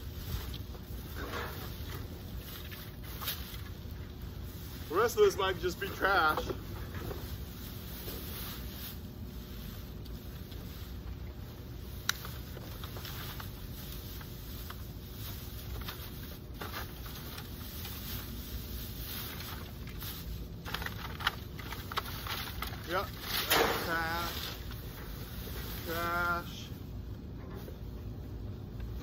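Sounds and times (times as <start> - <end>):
plastic bags rustling: 0.0 - 27.0
steady low rumble: 0.0 - 29.0.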